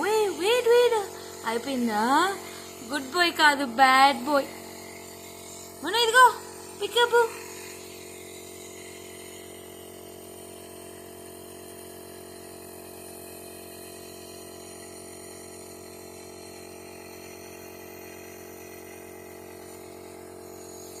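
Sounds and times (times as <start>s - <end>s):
nebulizer compressor buzzing hum: 0.0s - 21.0s.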